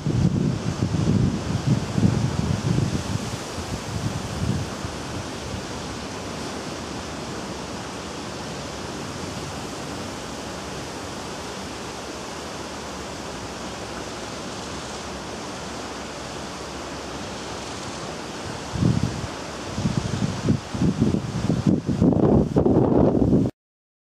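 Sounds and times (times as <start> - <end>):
wind rushing: 0.0 - 11.4, 13.2 - 23.5.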